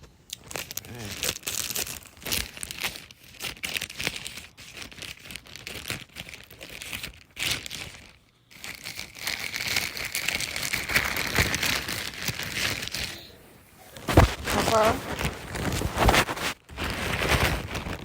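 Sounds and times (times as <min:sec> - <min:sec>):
packaging crinkling and rustling: 0:00.3 - 0:18.0.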